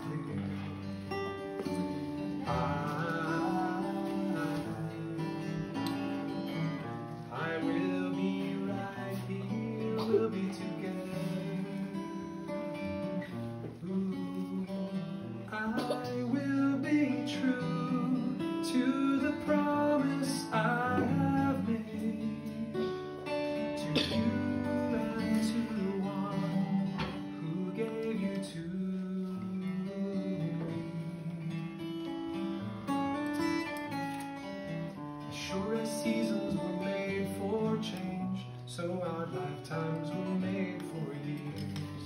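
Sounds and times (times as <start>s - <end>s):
man singing a slow ballad: 0.0s - 32.7s, 34.4s - 42.0s
acoustic guitar strumming: 0.0s - 42.0s.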